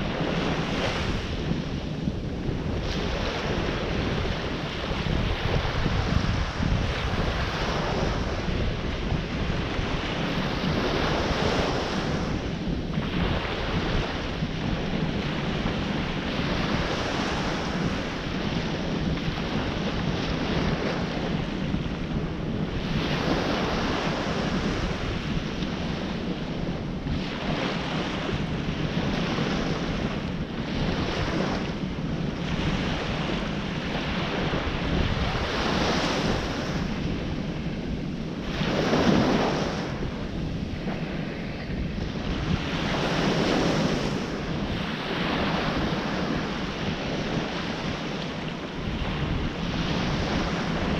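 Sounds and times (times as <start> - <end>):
surf breaking on shore: 0.0 - 50.9
wind buffeting microphone: 0.0 - 50.9.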